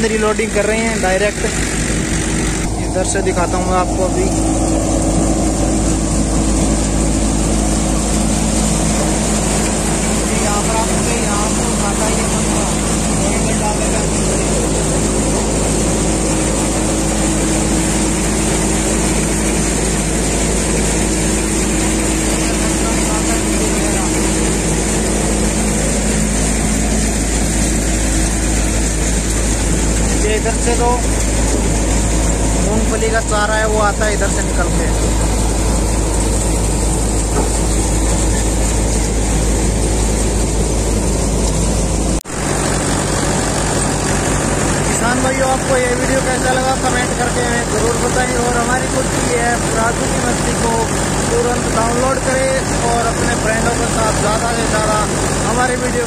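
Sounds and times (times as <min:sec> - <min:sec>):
thresher machine drone: 0:00.0 - 0:56.0
tractor diesel engine: 0:00.0 - 0:56.0.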